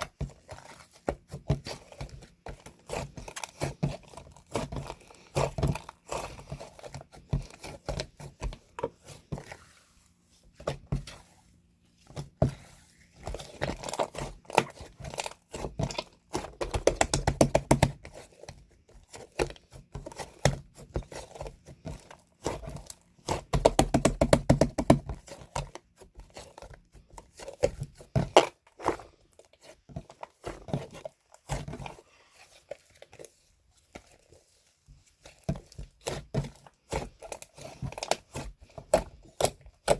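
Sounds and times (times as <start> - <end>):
objects crinkling and scraping: 0.0 - 23.7, 25.0 - 39.9.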